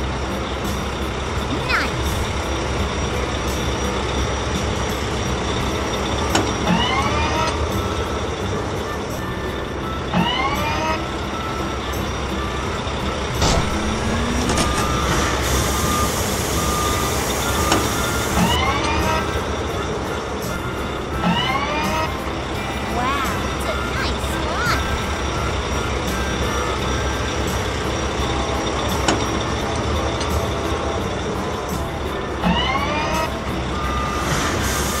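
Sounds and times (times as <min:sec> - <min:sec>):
loader engine rumbling: 0:00.0 - 0:35.0.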